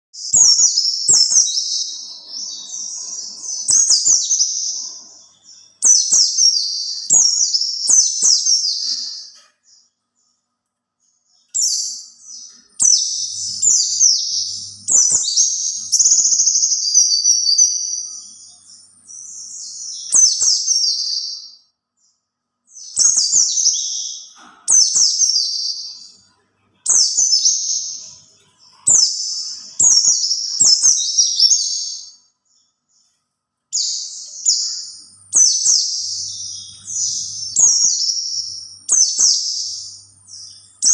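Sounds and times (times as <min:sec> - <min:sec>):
bird twittering: 0:00.2 - 0:10.3, 0:11.3 - 0:21.6, 0:22.7 - 0:33.0, 0:33.7 - 0:40.9.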